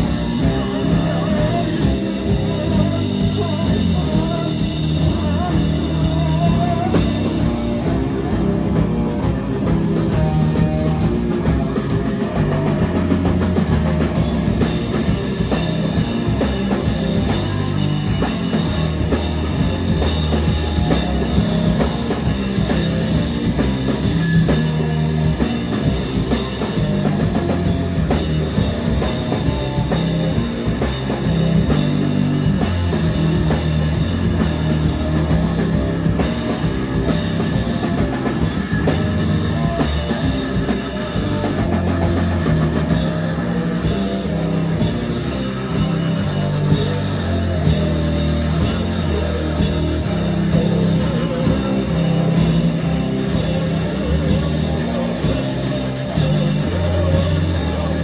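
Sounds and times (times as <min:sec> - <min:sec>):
drum kit: 0:00.0 - 0:58.0
live rock band playing: 0:00.0 - 0:58.0.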